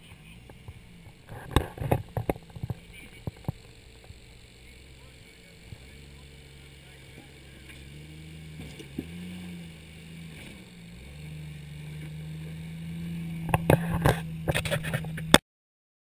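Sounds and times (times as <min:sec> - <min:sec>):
engine running at low revs: 0:00.0 - 0:15.4.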